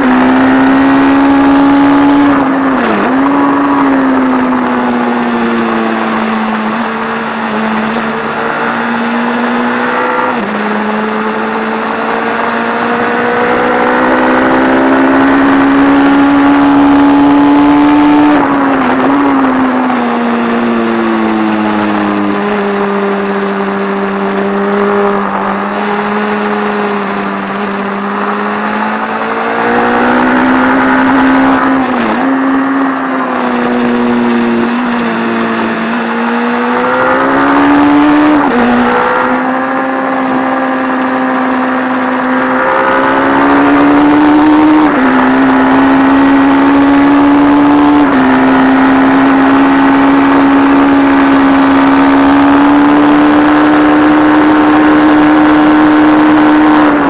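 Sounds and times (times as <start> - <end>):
wind rush: 0.0 - 52.5
racing engine at high revs: 0.0 - 57.0.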